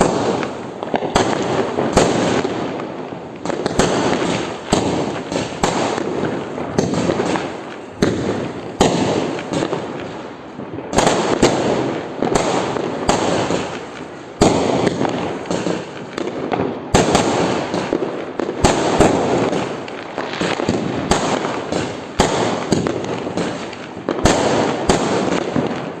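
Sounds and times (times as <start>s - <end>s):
firecracker bangs: 0.0s - 10.1s, 10.9s - 26.0s
continuous fireworks crackle: 0.0s - 26.0s.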